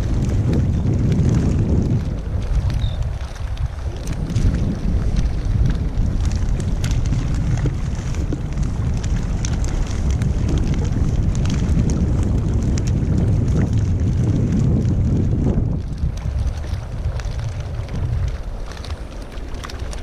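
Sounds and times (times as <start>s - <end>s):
water splashing against kayak: 0.0s - 20.0s
wind buffeting microphone: 0.0s - 20.0s.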